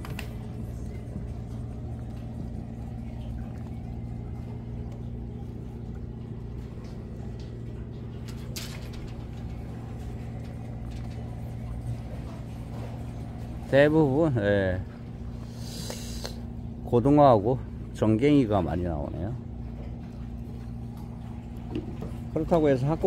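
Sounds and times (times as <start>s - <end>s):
engine idling hum: 0.0s - 23.0s.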